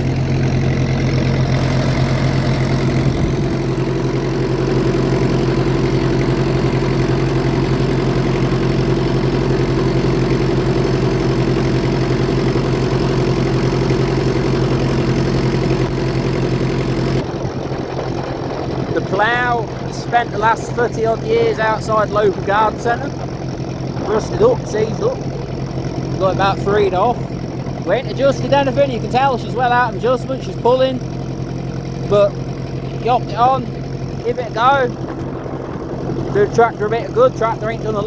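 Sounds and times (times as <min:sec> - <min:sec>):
tractor engine under load: 0:00.0 - 0:38.0.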